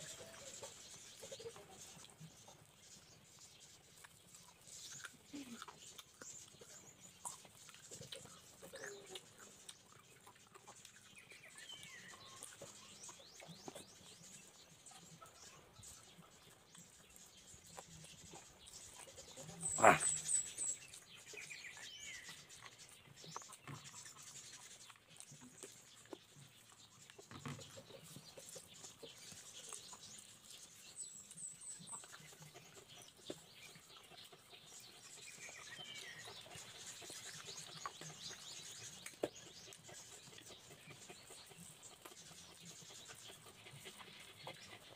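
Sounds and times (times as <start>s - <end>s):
birds chirping: 0.0s - 44.9s
man chewing and lip-smacking: 0.0s - 44.9s.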